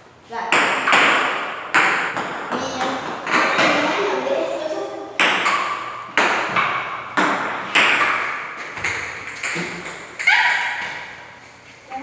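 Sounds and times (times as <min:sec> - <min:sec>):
ping-pong ball hitting table and paddles: 0:00.5 - 0:04.1, 0:05.2 - 0:11.2.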